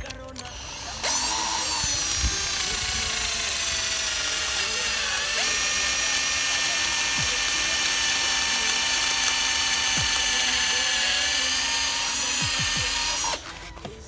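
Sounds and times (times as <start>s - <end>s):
electric drill whining under load: 0.0s - 13.6s.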